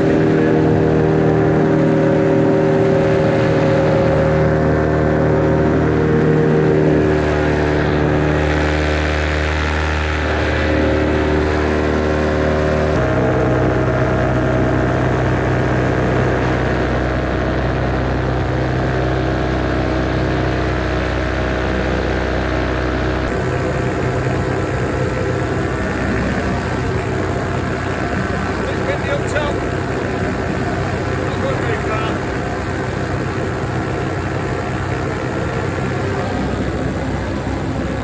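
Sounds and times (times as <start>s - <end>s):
paramotor engine and propeller running: 0.0s - 38.0s.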